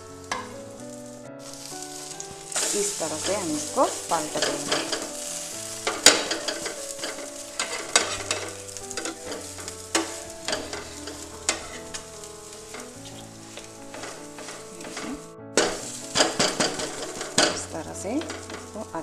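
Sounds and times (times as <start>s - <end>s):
omelette sizzling in pan: 0.0s - 19.0s
spatula scraping pan: 1.5s - 19.0s.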